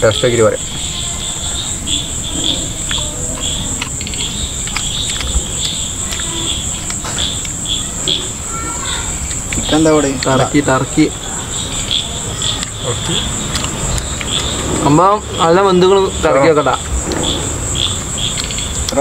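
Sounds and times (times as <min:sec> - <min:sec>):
insect chirping in short pulses: 0:00.0 - 0:19.0
insect continuous high trill: 0:00.0 - 0:19.0.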